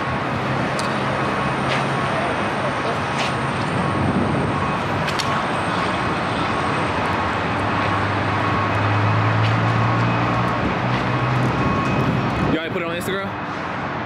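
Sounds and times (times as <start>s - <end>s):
road and traffic noise: 0.0s - 14.0s.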